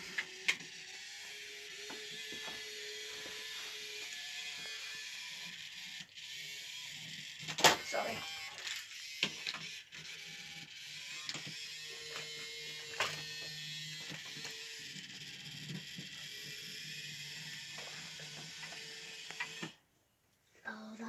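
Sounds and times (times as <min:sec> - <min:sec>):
toy train motor whirring: 0:00.0 - 0:19.8.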